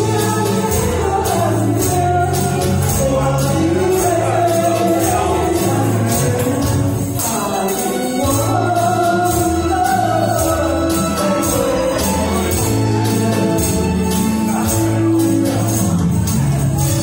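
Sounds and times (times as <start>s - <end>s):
hand shakers rattling: 0.0s - 17.0s
pop music over a pa: 0.0s - 17.0s.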